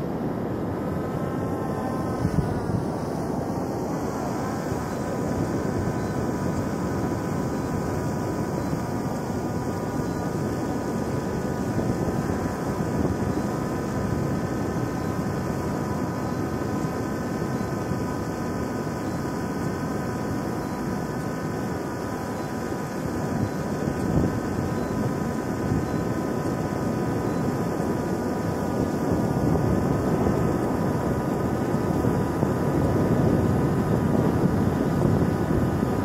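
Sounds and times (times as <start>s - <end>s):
drone propellers whining: 0.0s - 36.0s
rushing background noise: 0.0s - 36.0s.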